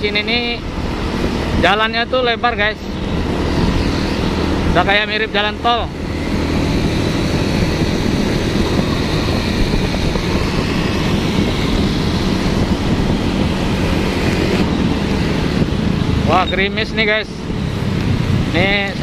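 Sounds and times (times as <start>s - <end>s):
motorcycle engine humming: 0.0s - 19.0s
wind rushing on microphone: 0.0s - 19.0s.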